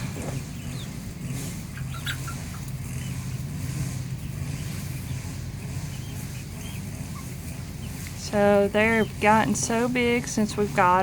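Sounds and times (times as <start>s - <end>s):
chicks chirping: 0.0s - 11.0s
low engine-like drone: 0.0s - 11.0s.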